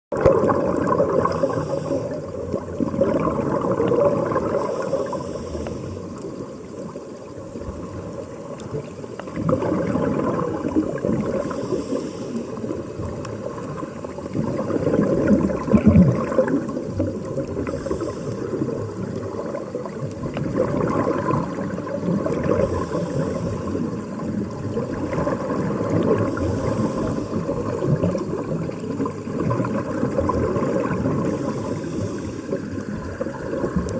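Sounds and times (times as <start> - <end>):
underwater air bubbling: 0.1 - 33.9.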